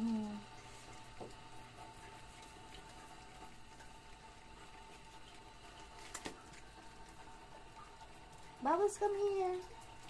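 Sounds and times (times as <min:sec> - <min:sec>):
faint steady hum: 0:00.0 - 0:10.0
puppies chewing and smacking: 0:00.0 - 0:10.0.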